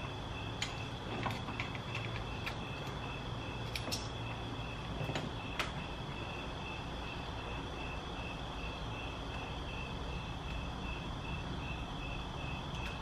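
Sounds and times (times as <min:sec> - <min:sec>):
insect chirping: 0:00.0 - 0:13.0
low steady background hum: 0:00.0 - 0:13.0.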